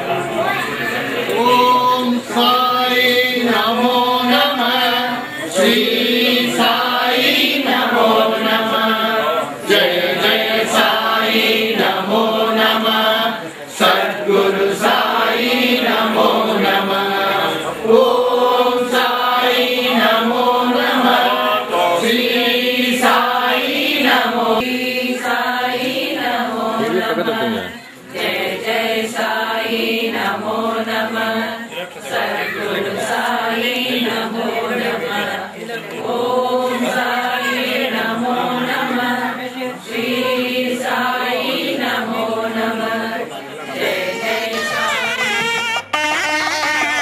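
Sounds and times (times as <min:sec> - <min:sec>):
group chanting a mantra: 0:00.0 - 0:45.0.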